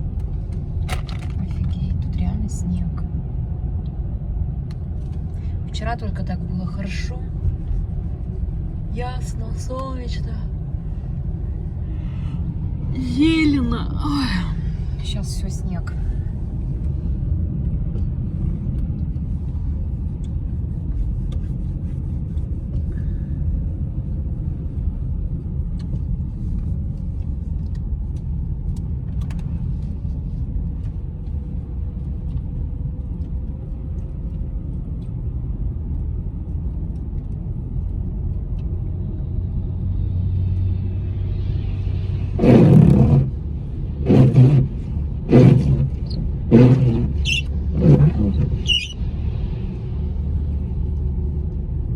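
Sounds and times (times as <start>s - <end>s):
car driving rumble from inside: 0.0s - 51.9s.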